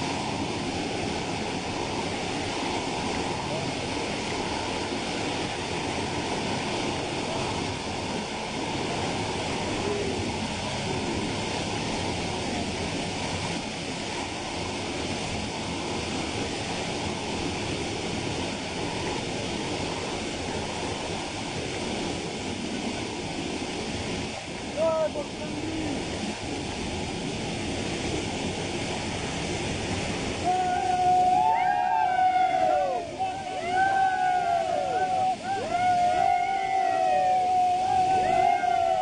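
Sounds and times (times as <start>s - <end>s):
fast-running water rushing: 0.0s - 39.0s.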